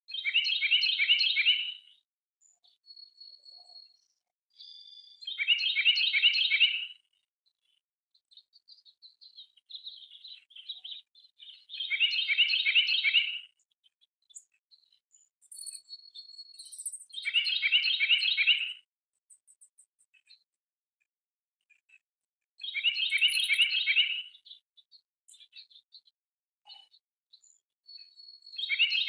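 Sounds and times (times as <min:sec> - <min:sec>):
songbird singing: 0:00.1 - 0:07.0, 0:07.7 - 0:18.8, 0:22.6 - 0:26.1, 0:26.7 - 0:29.0
soft high bird chirps: 0:00.1 - 0:20.5, 0:22.6 - 0:29.0.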